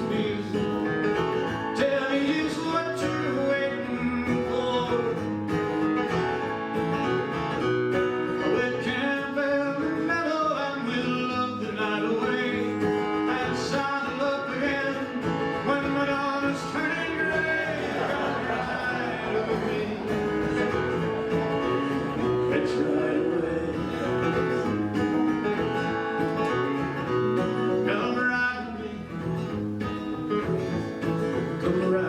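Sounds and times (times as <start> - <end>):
man singing: 0.0 - 29.5, 31.4 - 32.0
acoustic guitar: 0.0 - 32.0.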